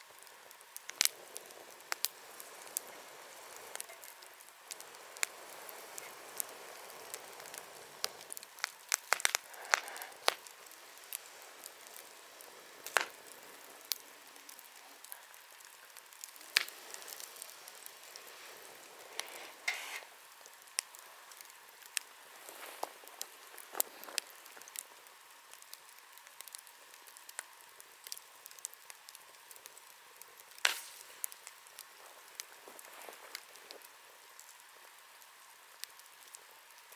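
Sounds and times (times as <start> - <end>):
bonfire hissing: 0.0 - 36.9
fire crackling and popping: 0.0 - 36.9.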